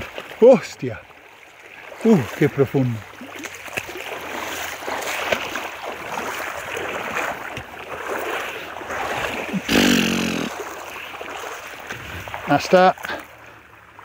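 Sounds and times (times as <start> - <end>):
person wading through water: 0.0 - 14.0
rushing water: 0.0 - 14.0.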